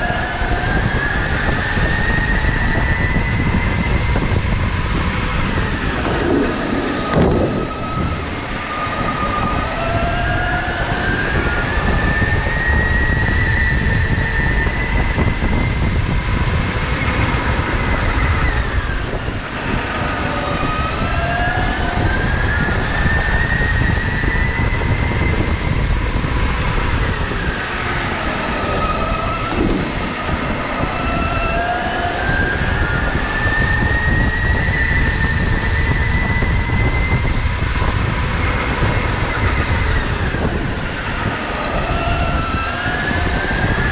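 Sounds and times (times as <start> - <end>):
go-kart motor whine: 0.0 - 43.9
tyres rumbling on track: 0.0 - 43.9.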